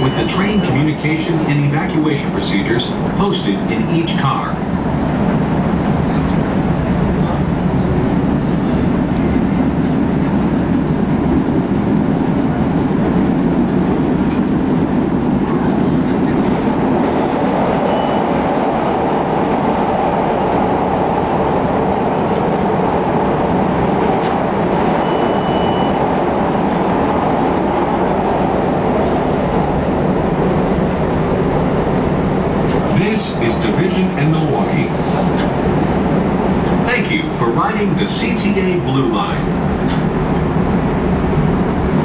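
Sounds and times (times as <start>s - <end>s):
train wheels rumbling: 0.0s - 42.0s.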